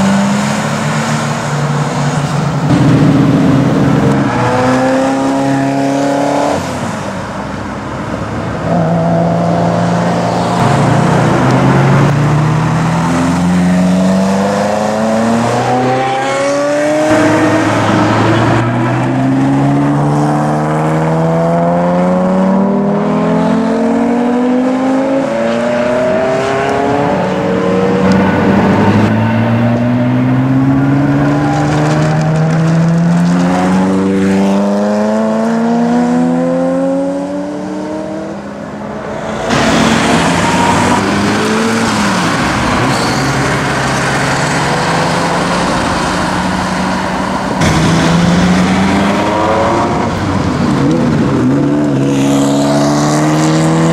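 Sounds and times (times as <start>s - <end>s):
sports car engines accelerating hard: 0.0s - 53.9s.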